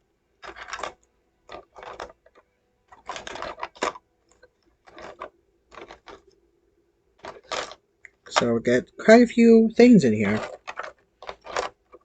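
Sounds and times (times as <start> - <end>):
plastic parts rattling and crinkling: 0.0 - 6.5, 7.1 - 12.0.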